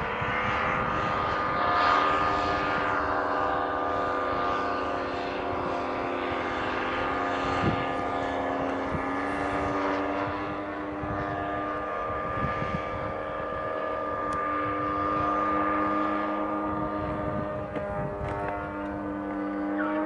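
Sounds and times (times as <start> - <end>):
model plane engine buzzing: 0.0 - 20.0.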